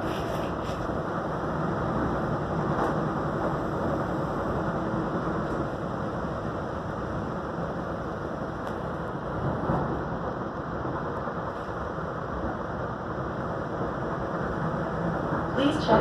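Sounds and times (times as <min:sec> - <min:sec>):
moving train rumble and hiss: 0:00.0 - 0:16.0.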